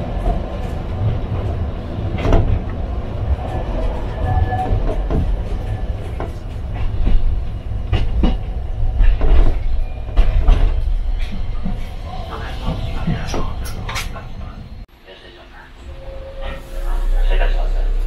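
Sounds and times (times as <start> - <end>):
streetcar rumbling on track: 0.0 - 18.0.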